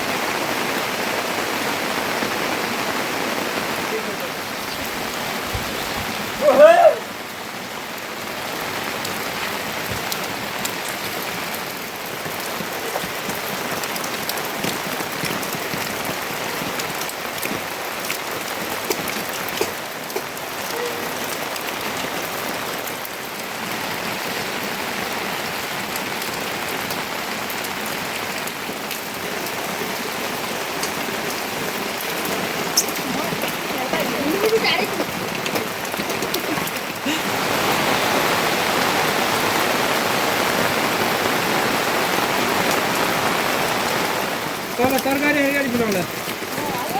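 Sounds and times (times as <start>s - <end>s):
rain falling: 0.0s - 46.9s
raindrops tapping close by: 0.0s - 46.9s.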